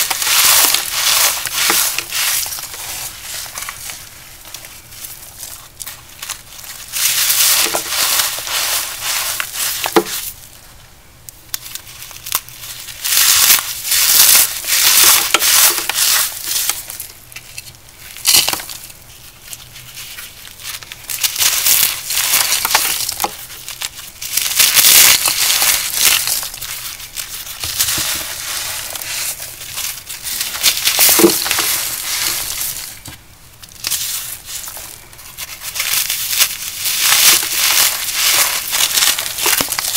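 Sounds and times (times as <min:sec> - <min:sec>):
powder block crunching: 0:00.0 - 0:10.4, 0:11.6 - 0:18.9, 0:20.3 - 0:39.9.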